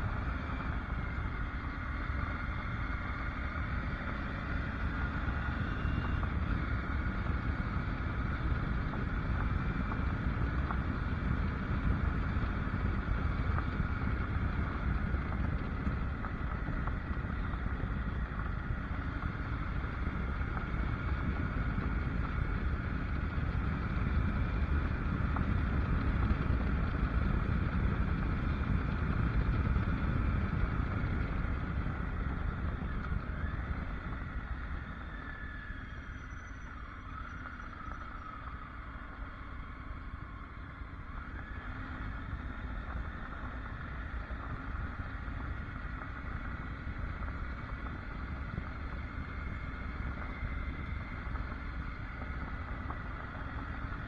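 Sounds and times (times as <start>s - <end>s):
motorcycle engine running: 0.0s - 54.0s
wind noise on camera: 0.0s - 54.0s.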